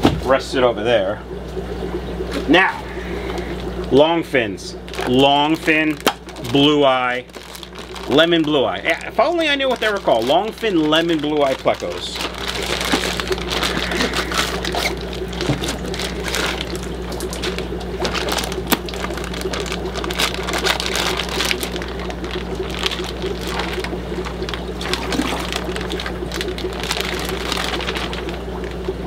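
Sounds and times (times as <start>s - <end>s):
steady low hum: 0.0s - 29.0s
water sloshing and pouring: 0.0s - 29.0s
plastic bags crinkling: 2.9s - 4.0s, 4.8s - 29.0s.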